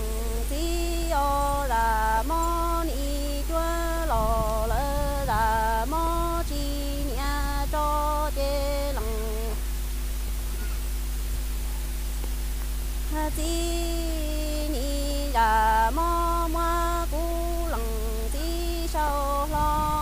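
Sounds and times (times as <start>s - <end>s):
woman singing unaccompanied: 0.0s - 9.8s, 13.1s - 20.0s
low steady hum: 0.0s - 20.0s.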